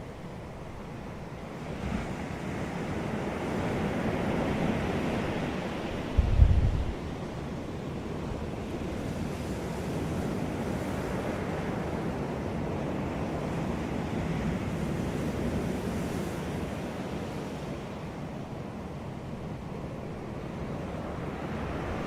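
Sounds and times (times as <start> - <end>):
sea waves on a beach: 0.0 - 22.0.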